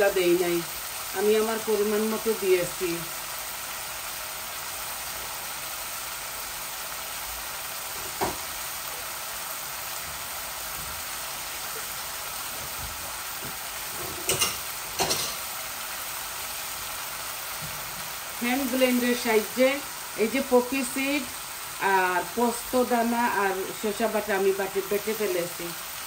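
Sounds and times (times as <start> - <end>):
masala sizzling in oil: 0.0 - 26.0.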